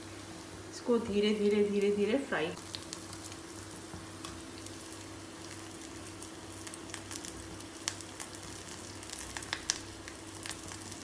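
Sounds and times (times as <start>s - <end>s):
deep-frying sizzle and pops: 0.5s - 11.0s.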